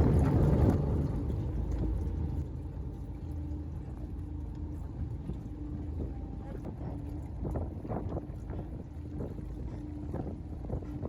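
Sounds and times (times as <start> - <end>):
faint steady hum: 0.0 - 11.0
wind buffeting microphone: 0.0 - 11.0.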